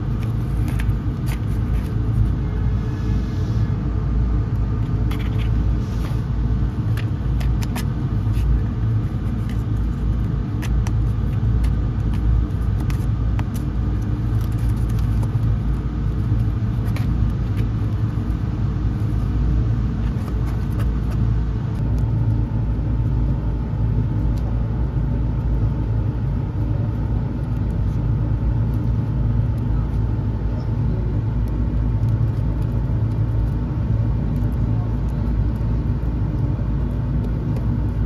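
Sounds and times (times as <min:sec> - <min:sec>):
engine low rumble: 0:00.0 - 0:38.0.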